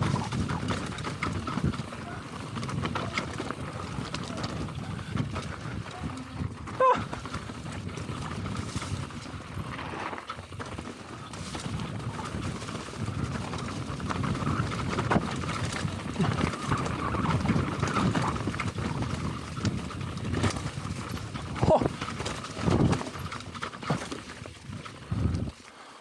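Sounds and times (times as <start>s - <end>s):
bike clattering over rocks: 0.0s - 25.5s.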